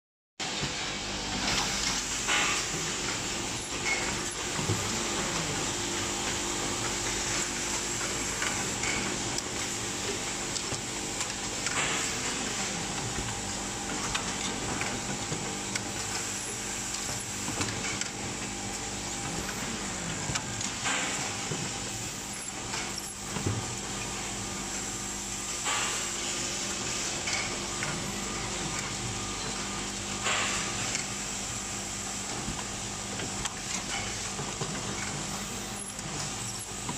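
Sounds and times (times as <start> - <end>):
machine hum and clatter: 0.4 - 36.9.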